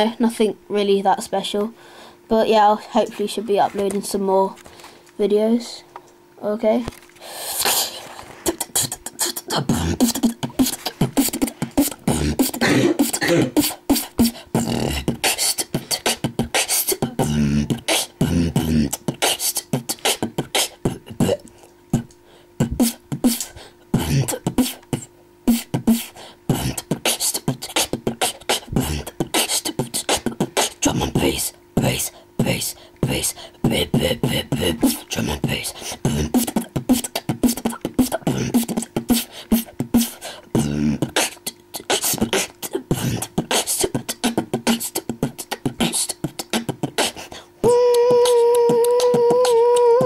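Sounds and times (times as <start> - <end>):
boy beatboxing: 0.0 - 4.6, 6.5 - 50.0.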